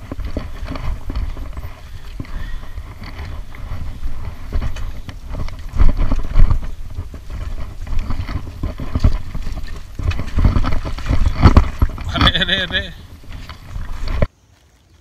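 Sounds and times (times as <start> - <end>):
mountain bike rattling and thudding: 0.0 - 14.3
wind rumble on microphone: 0.0 - 14.3.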